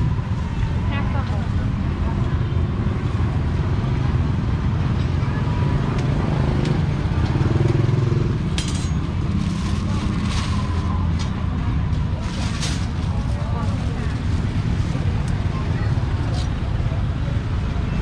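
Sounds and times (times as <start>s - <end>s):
motorbike engines running: 0.0s - 18.0s.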